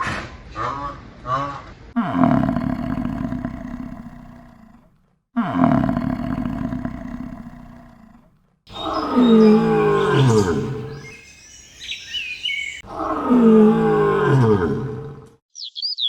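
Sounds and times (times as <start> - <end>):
large animal drawn-out call: 0.5 - 15.1.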